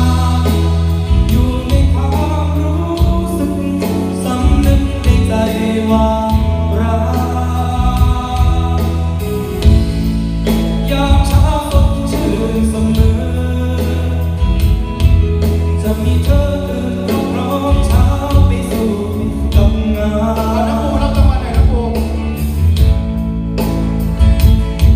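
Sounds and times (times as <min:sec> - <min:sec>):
song with singing over a beat: 0:00.0 - 0:24.9.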